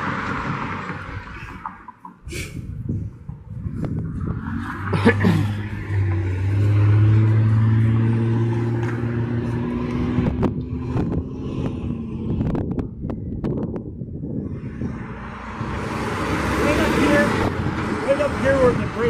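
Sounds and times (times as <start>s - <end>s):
vehicle engine passing by: 3.4s - 19.0s.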